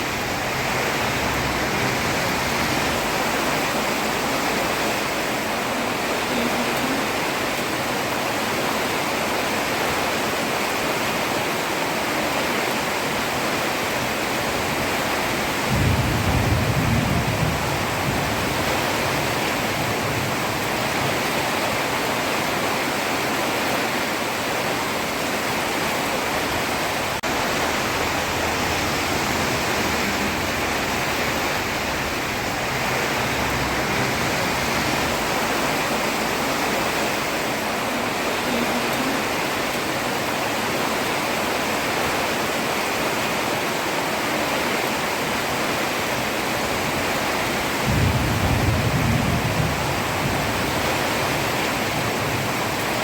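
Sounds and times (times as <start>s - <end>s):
heavy rain on a road: 0.0s - 53.0s.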